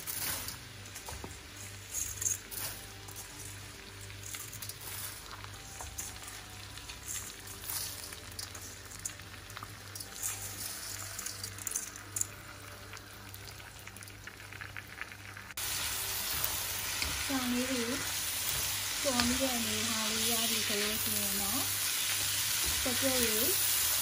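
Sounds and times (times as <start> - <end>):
oil sizzling: 0.0 - 24.0.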